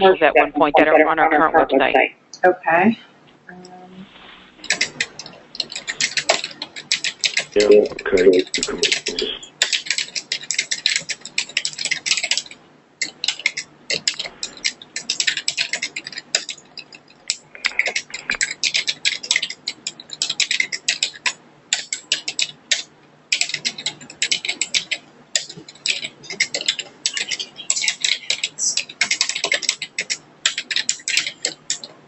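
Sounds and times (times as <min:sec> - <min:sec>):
typing on a keyboard: 0:04.6 - 0:32.0.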